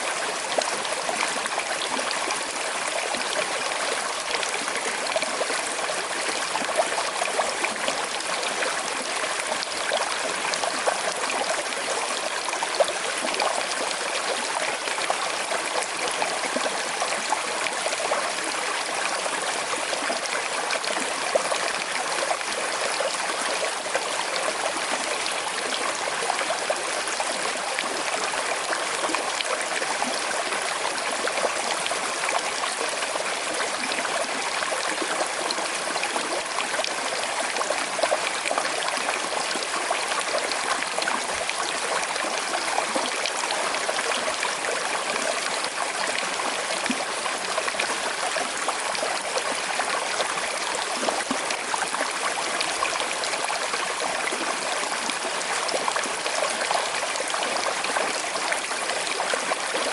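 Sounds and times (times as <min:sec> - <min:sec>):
river trickling over stones: 0:00.0 - 0:59.9.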